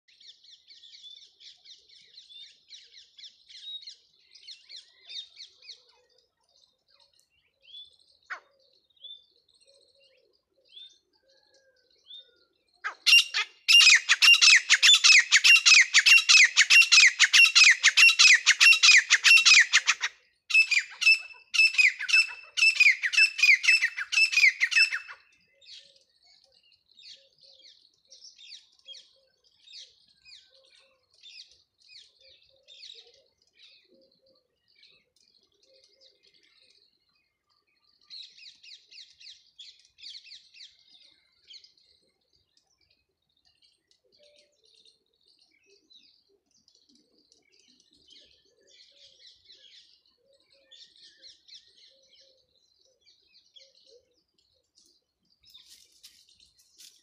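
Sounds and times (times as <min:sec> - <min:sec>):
rapid repeated bird calls: 0:01.8 - 0:57.0
birds chirping faintly: 0:03.6 - 0:57.0.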